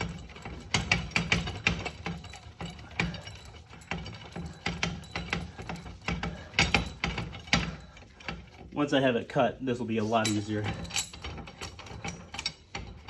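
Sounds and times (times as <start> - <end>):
metal tools clicking and clanking: 0.0 - 9.0, 10.0 - 13.0.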